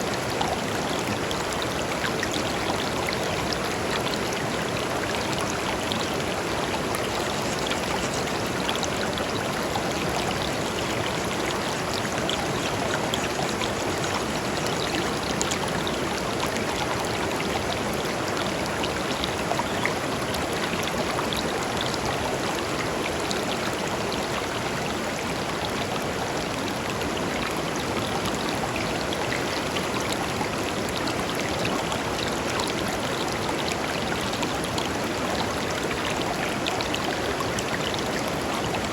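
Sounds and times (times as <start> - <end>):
river flowing over stones: 0.0 - 38.9
water splashes and trickles: 0.0 - 38.9.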